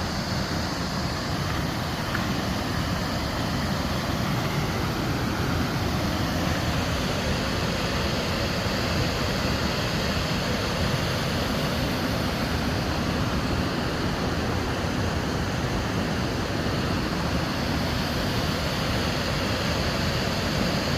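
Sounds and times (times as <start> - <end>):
waterfall rushing water: 0.0 - 20.9.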